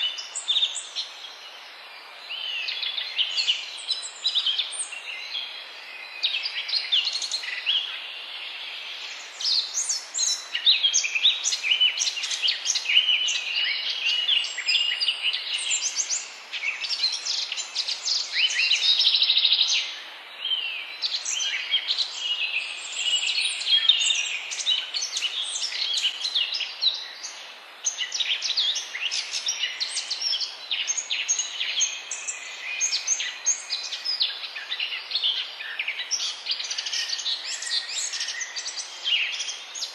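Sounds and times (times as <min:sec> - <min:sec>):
birds singing and chirping: 0:00.0 - 0:39.9
steady background hiss: 0:00.0 - 0:39.9.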